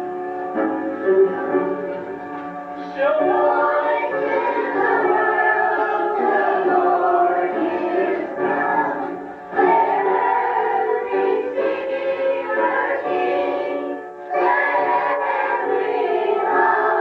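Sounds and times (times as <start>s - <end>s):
group singing a hymn: 2.8s - 17.0s.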